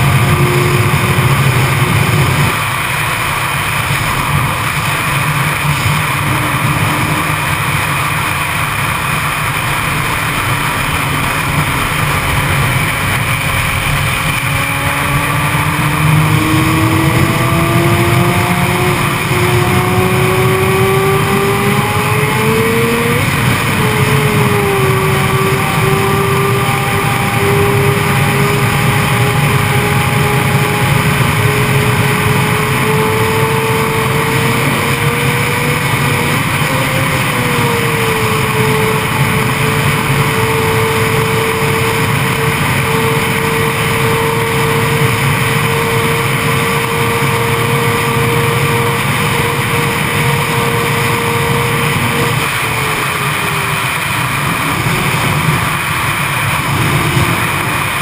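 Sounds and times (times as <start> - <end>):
motorcycle engine revving high: 0.0 - 58.0
wind rush over microphone: 0.0 - 58.0.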